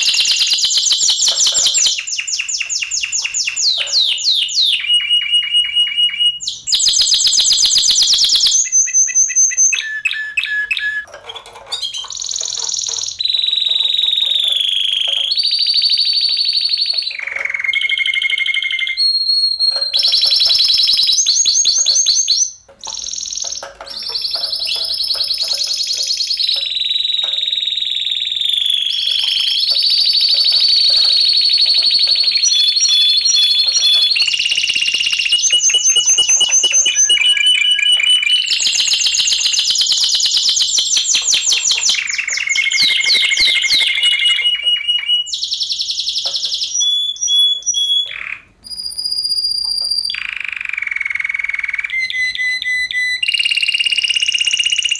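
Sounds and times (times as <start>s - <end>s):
canaries singing: 0.0s - 54.9s.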